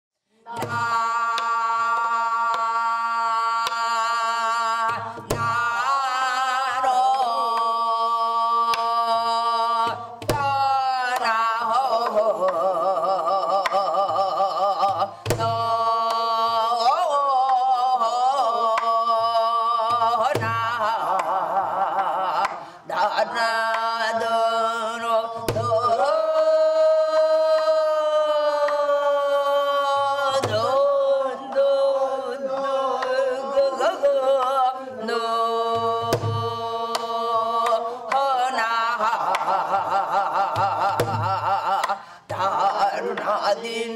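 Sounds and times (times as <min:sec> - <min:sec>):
woman singing with heavy vibrato: 0:00.4 - 0:43.9.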